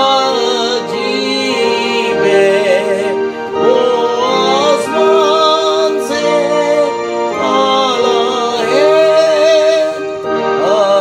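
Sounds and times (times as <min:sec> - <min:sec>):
hymn singing: 0:00.0 - 0:11.0
instrumental accompaniment chords: 0:00.0 - 0:11.0.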